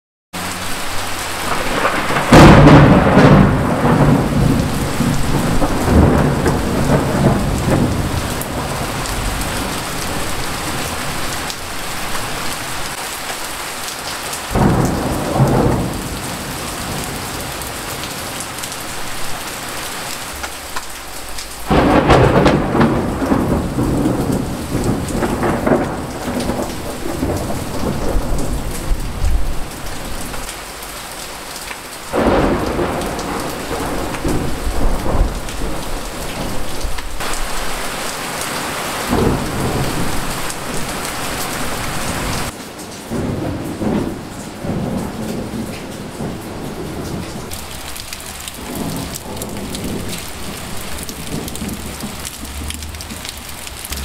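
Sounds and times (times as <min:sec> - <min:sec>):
heavy rain falling: 0:00.4 - 0:54.0
thunder rumbling: 0:00.6 - 0:13.1, 0:14.5 - 0:30.5, 0:32.1 - 0:42.5, 0:43.1 - 0:54.0.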